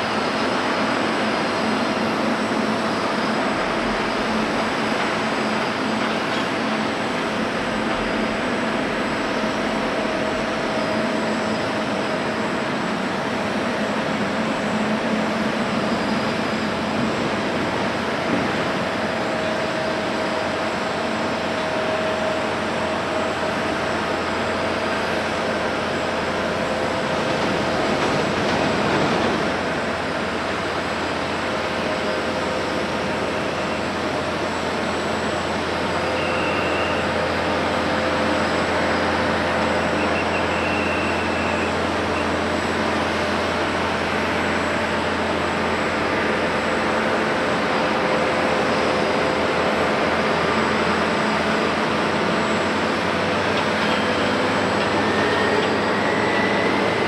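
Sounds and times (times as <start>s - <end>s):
jet engines idling: 0.0s - 57.0s.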